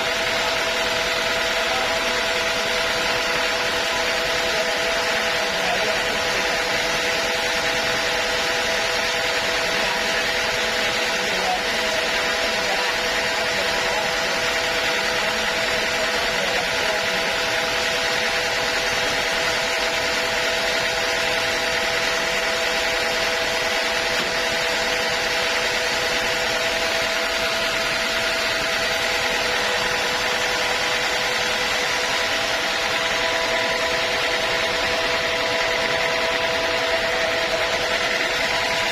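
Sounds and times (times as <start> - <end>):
machine hum: 0.0 - 38.9
saw cutting through log: 0.0 - 38.9.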